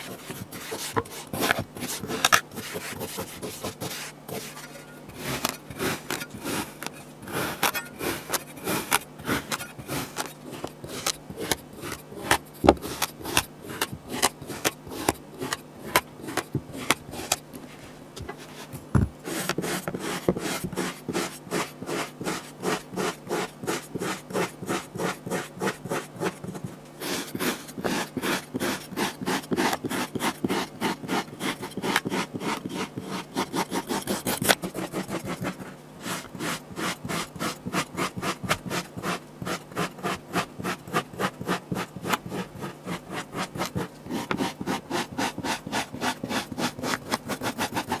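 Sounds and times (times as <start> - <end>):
tool scraping kinetic sand: 0.0 - 48.0.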